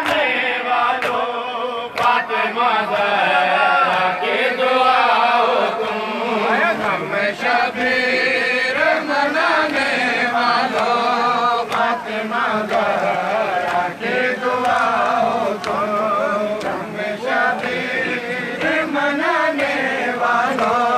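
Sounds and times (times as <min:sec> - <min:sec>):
men singing in unison: 0:00.0 - 0:20.9.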